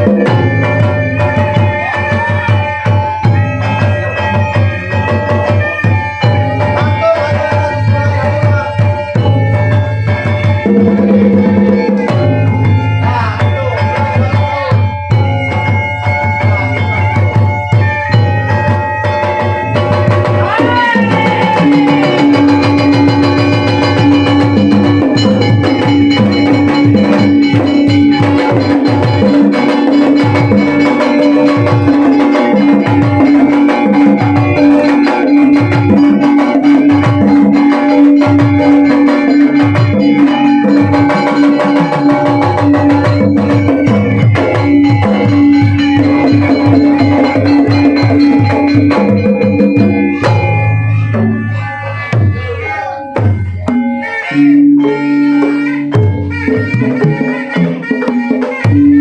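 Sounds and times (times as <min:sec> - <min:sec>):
hand drums beating: 0:00.0 - 0:59.0
ringing metallophone: 0:00.0 - 0:59.0.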